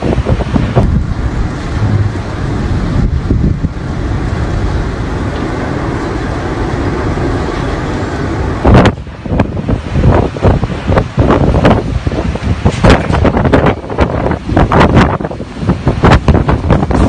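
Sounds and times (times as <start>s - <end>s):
tornado wind rumbling: 0.0s - 17.0s.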